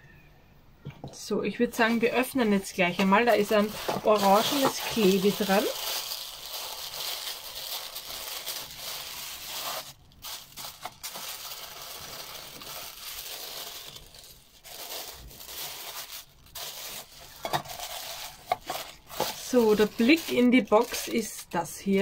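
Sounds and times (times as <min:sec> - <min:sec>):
paper and cardboard rustling: 0:02.9 - 0:21.3.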